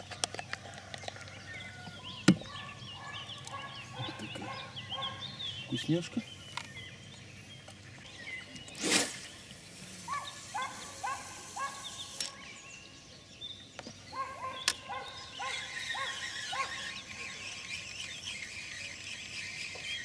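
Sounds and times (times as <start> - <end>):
birds repeated arched calls: 0.0 - 20.0
high bird twittering: 1.5 - 20.0.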